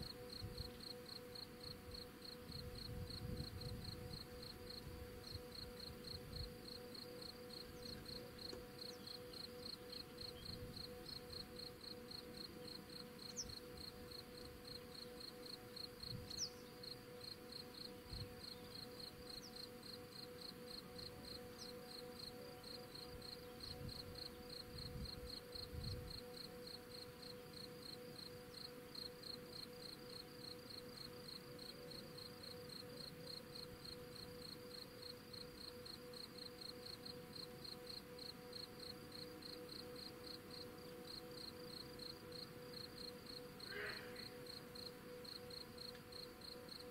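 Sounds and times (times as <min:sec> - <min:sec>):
cricket chirping: 0:00.0 - 0:46.9
faint steady hum: 0:00.0 - 0:46.9.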